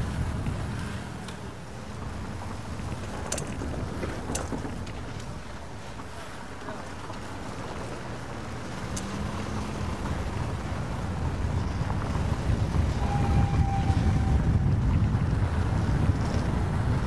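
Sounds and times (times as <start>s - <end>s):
road traffic: 0.0s - 17.0s
wind rumble on microphone: 0.0s - 17.0s.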